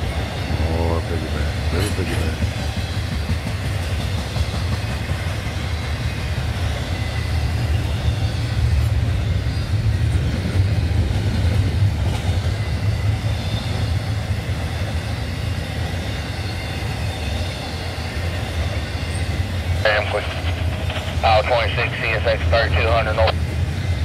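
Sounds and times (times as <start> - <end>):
freight train cars rumbling past: 0.0 - 24.0.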